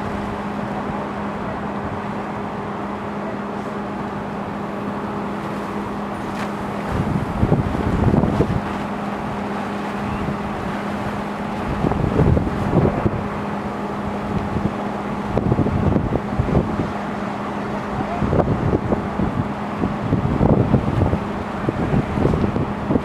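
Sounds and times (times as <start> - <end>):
engine drone: 0.0 - 23.0
wind buffeting microphone: 4.3 - 23.0.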